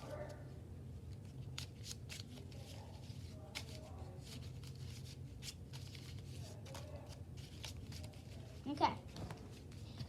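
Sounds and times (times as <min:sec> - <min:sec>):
paper cards rustling and tapping: 0:01.1 - 0:10.0.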